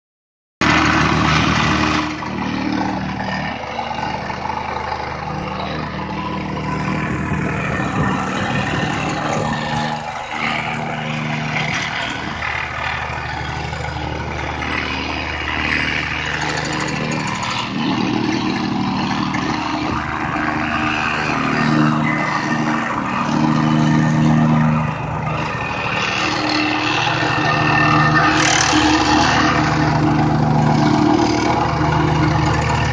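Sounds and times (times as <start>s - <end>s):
plate compactor running on gravel: 0.6s - 32.9s.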